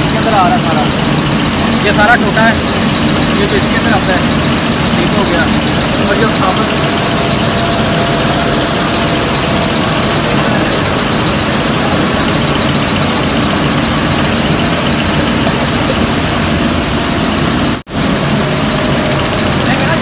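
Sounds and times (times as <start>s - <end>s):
mill machinery running: 0.0s - 20.0s.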